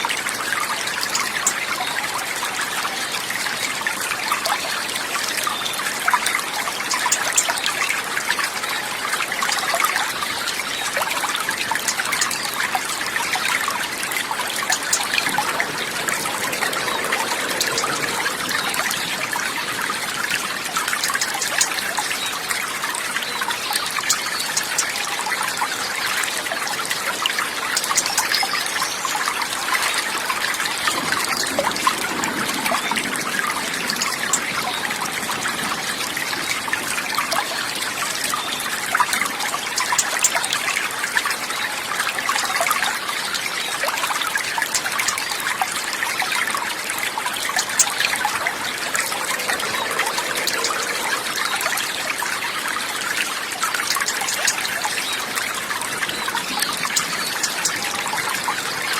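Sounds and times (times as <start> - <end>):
water trickling and babbling: 0.0 - 58.9.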